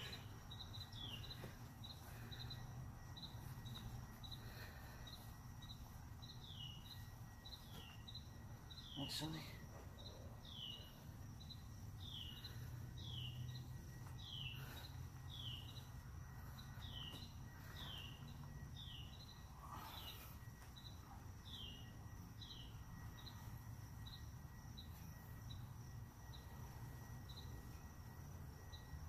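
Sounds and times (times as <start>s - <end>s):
bird chirping: 0.0s - 29.0s
steady low hum: 0.0s - 29.0s.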